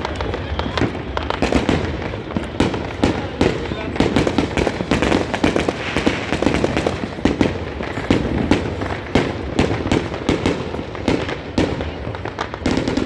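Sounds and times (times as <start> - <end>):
firecrackers and fireworks banging: 0.0 - 13.0.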